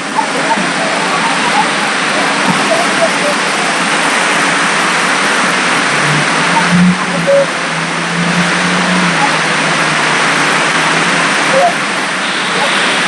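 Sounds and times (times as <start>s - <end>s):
vehicle engine humming: 0.0s - 13.0s
waterfall rushing: 0.0s - 13.0s.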